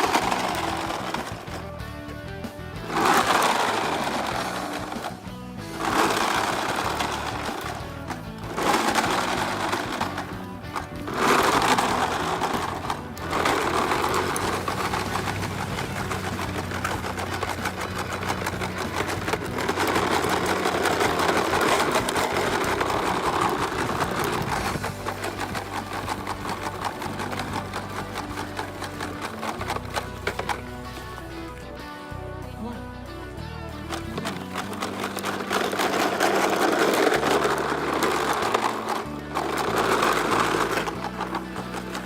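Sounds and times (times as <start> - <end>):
small electric motor and gears: 0.0 - 1.8, 2.8 - 31.2, 34.0 - 42.0.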